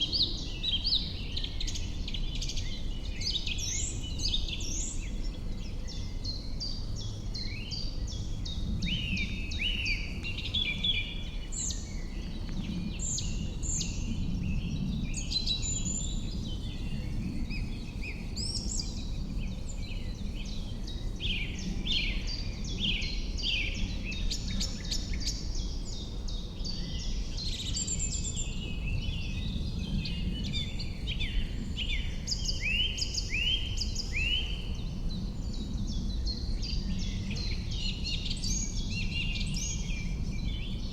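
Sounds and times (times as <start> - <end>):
birds singing and chirping: 0.0 - 40.9.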